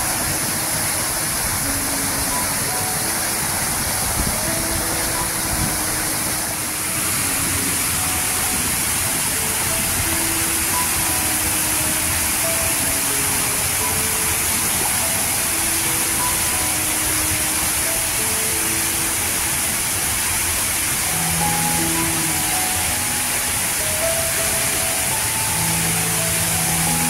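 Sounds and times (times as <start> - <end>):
soft slow background music: 0.0 - 27.0
waterfall rushing: 0.0 - 27.0.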